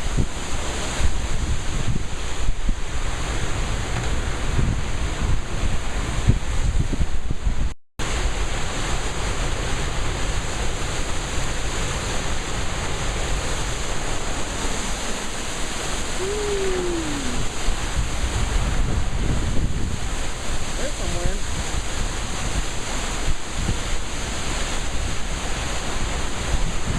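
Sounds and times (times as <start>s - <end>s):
storm wind on microphone: 0.0s - 26.9s.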